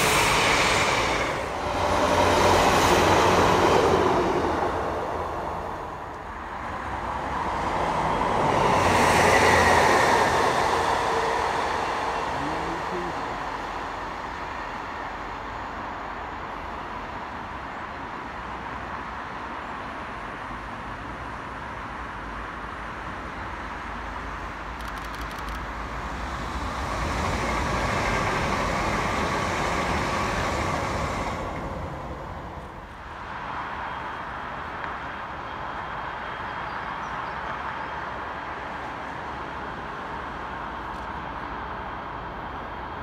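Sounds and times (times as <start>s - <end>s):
train passing at speed: 0.0s - 43.0s.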